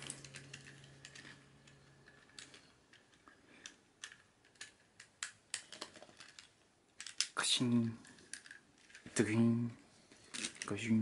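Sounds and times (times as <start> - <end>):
plastic parts clicking and tapping: 0.0 - 7.4, 8.0 - 9.4, 10.1 - 10.8.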